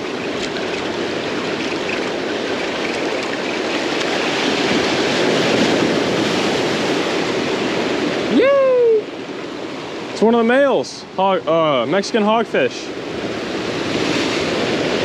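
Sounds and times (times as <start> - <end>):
ocean surf on shore: 0.0 - 15.0.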